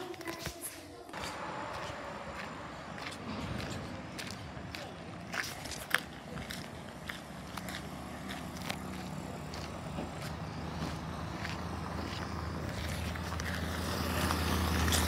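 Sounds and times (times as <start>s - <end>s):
engine humming: 0.0s - 15.0s
footsteps on gravel: 0.0s - 15.0s.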